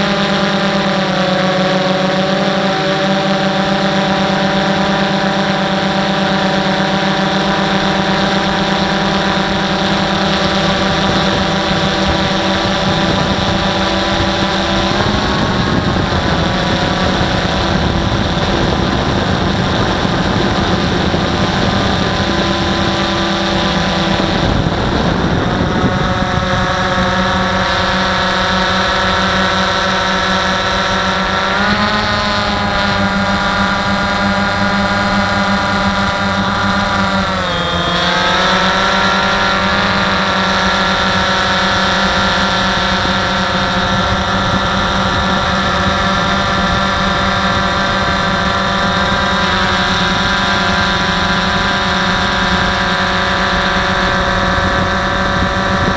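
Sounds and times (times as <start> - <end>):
drone propellers whining: 0.0 - 55.9.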